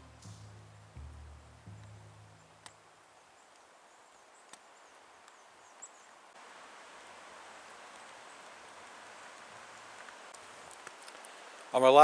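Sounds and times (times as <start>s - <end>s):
faint hiss: 0.0s - 12.0s
loud steady hiss: 0.0s - 12.0s.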